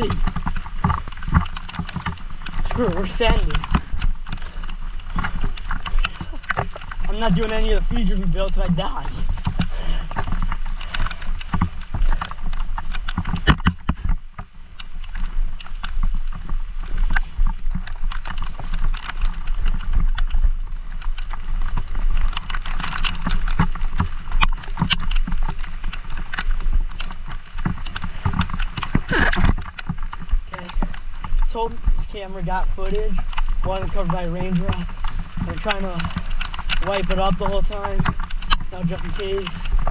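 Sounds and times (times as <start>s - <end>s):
bike knocking and clattering: 0.0s - 39.9s.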